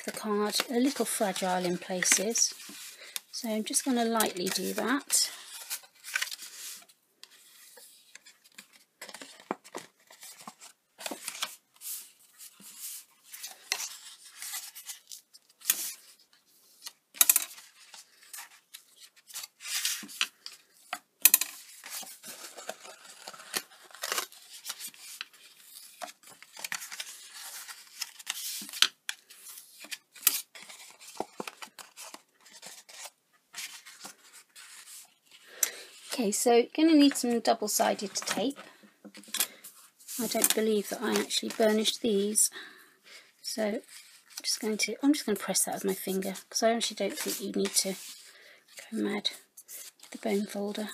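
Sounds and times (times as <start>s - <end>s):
card rustling: 0.0s - 42.4s, 45.8s - 50.9s.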